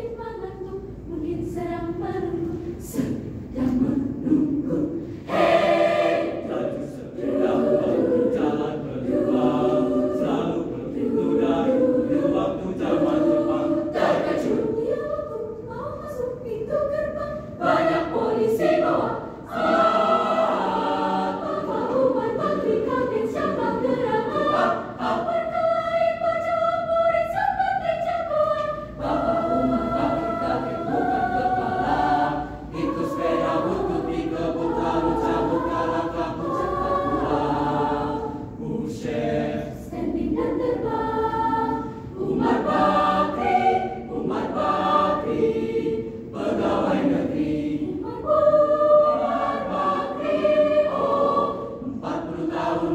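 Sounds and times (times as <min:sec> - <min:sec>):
mixed choir singing: 0:00.0 - 0:52.9.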